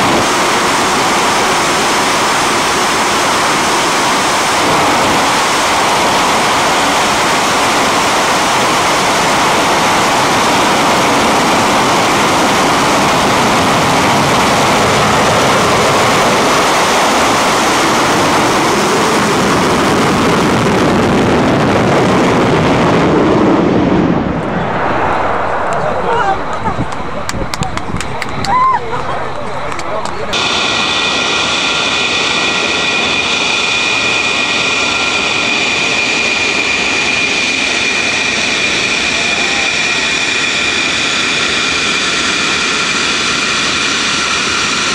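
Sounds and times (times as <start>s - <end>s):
loud jet engine roar: 0.0s - 44.9s.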